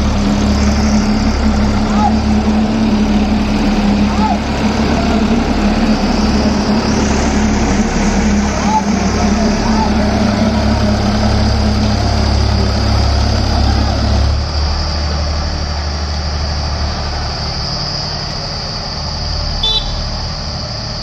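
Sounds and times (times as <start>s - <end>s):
tractor diesel engines under load: 0.0s - 21.0s.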